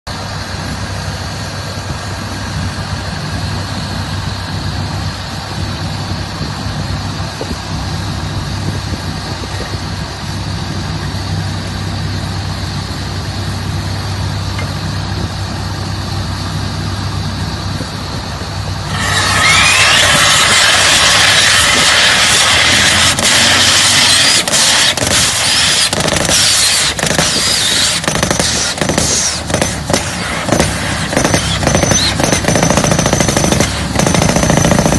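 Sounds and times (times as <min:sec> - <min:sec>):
drill rig engine running: 0:00.1 - 0:34.9
loud hissing rattling noise: 0:00.1 - 0:34.9.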